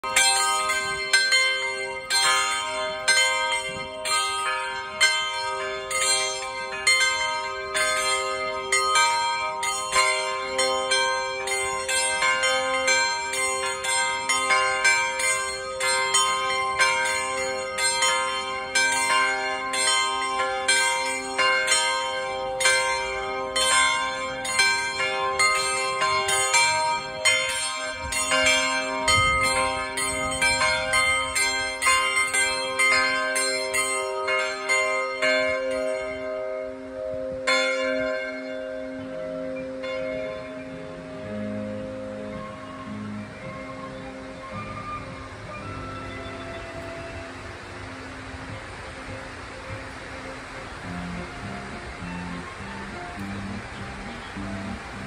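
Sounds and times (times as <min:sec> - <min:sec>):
tower bells playing melody: 0:00.0 - 0:55.0.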